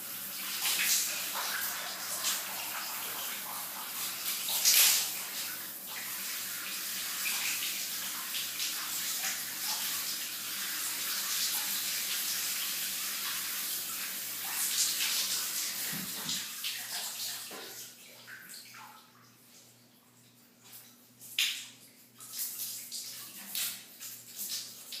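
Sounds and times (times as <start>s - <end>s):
shower water running: 0.0s - 19.7s, 20.6s - 25.0s.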